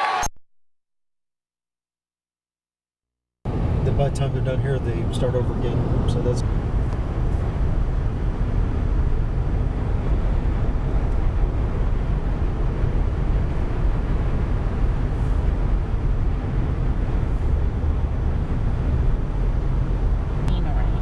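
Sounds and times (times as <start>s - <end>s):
car cabin road rumble: 3.5s - 21.0s.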